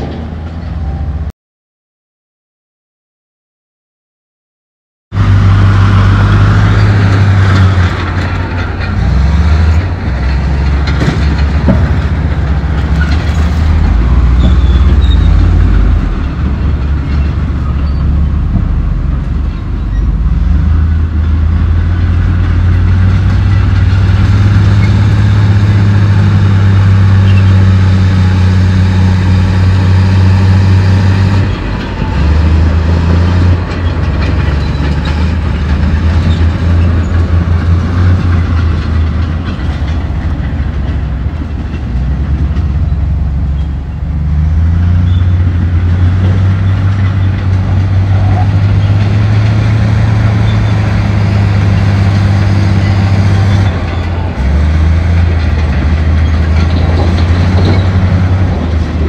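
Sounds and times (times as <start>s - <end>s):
diesel engine running hard: 5.2s - 59.0s
steel tracks rattling: 5.2s - 59.0s.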